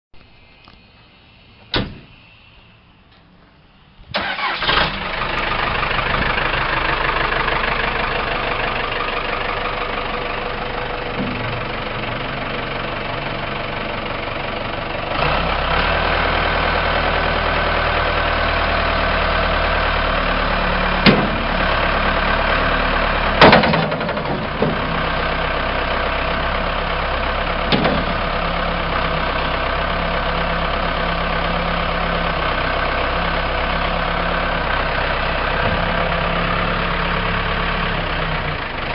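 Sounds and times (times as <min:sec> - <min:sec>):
diesel engine idling: 0:00.5 - 0:38.9.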